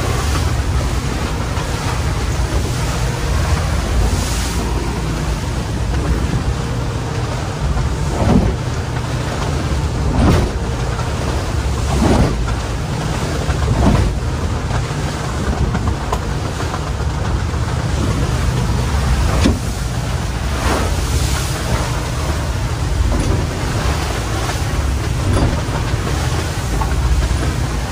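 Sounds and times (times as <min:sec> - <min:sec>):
engine and wind rumble: 0:00.0 - 0:27.9
hull slamming into waves: 0:00.0 - 0:27.9.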